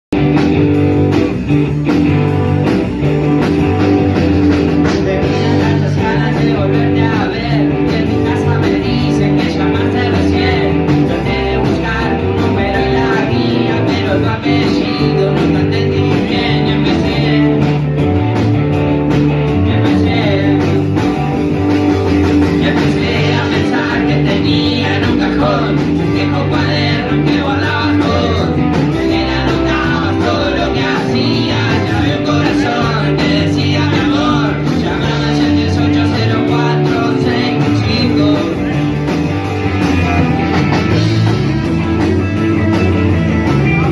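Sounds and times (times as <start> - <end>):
rock song with singing: 0.1 - 43.9.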